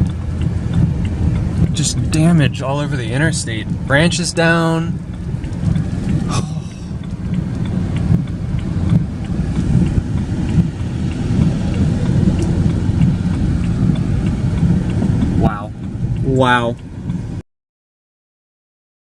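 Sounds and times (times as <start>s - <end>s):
car driving on highway: 0.0s - 17.4s.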